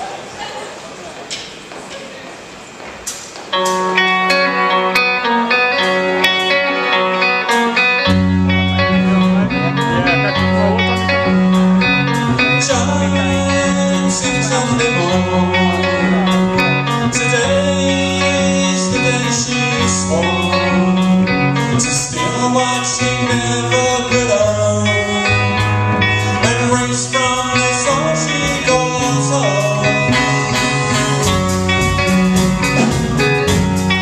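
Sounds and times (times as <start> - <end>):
guitars picking a pattern: 3.0 - 34.0
bass line: 5.8 - 34.0.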